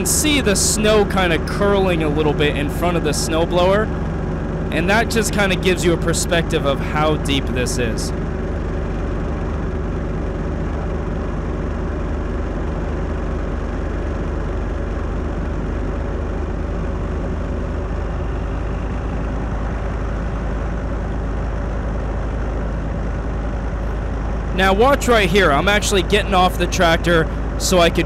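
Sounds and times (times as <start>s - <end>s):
tractor engine running under load: 0.0s - 28.0s.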